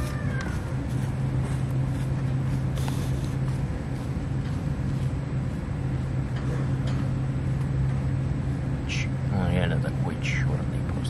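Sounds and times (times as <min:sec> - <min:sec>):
vehicle engine drone from cabin: 0:00.0 - 0:11.0.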